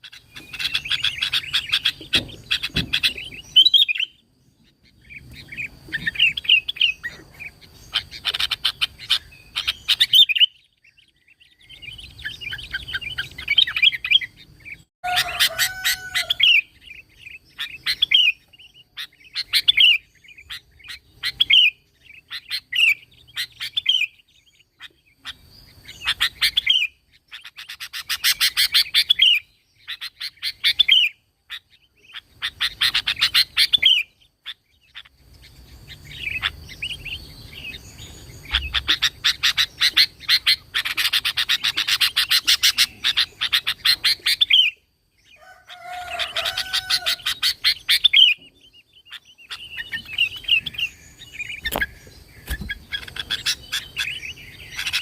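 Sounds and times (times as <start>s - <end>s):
bulbul chattering song: 0.0s - 55.0s.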